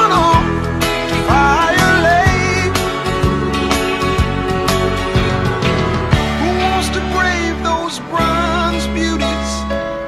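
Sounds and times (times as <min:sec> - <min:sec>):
held bass notes: 0:00.0 - 0:10.0
song with wavering melody: 0:00.0 - 0:10.0.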